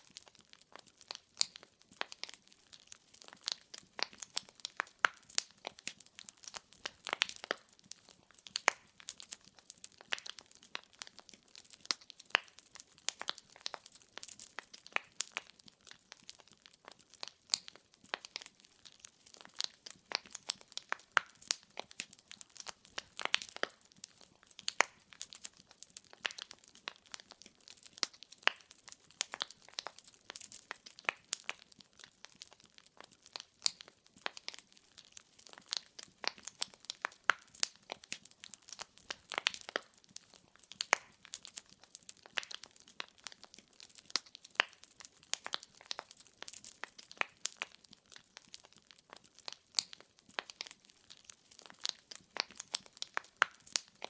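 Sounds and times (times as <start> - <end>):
logs crackling in fireplace: 0.0 - 54.0.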